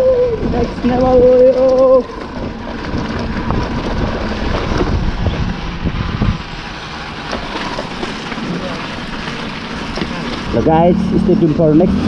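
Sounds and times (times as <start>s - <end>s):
dirt bike engine: 0.0s - 12.0s
rough low rumble: 0.0s - 12.0s
wind buffeting microphone: 0.0s - 12.0s.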